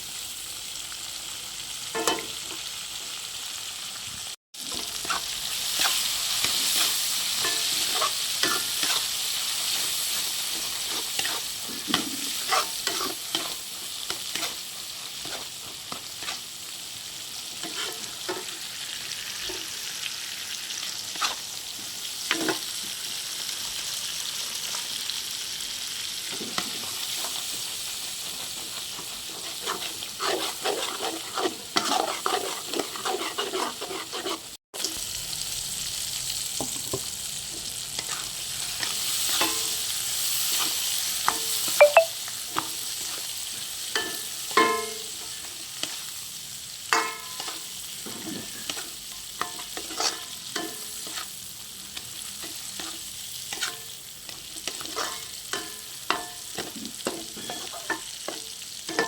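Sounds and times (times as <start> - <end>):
fish sizzling in oil: 0.0 - 59.0.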